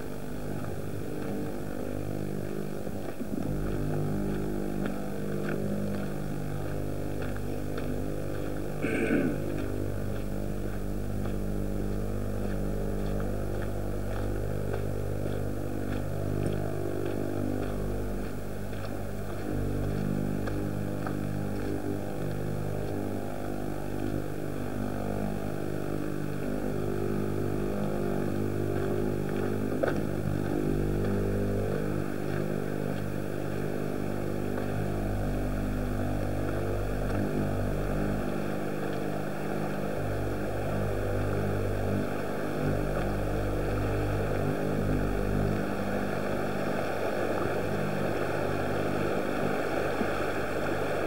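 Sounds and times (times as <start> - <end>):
vehicle engine humming: 0.0 - 51.0.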